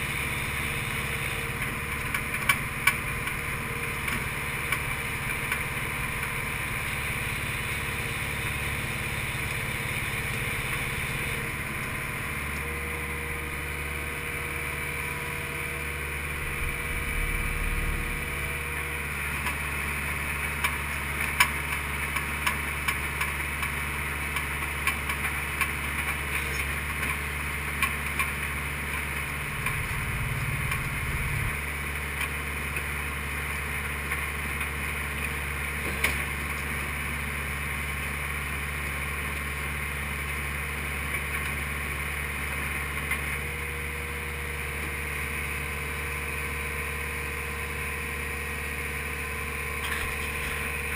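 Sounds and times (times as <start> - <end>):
hydraulic auger boring: 0.0 - 50.9
skid steer engine running: 0.0 - 50.9.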